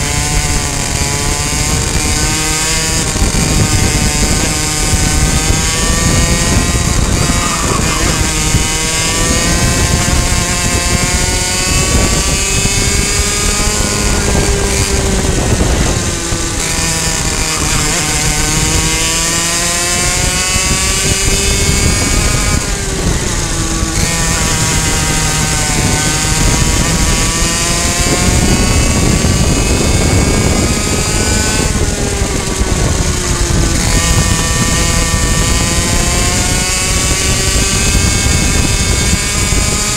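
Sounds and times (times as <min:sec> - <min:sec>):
high-revving kart engine: 0:00.0 - 0:39.9.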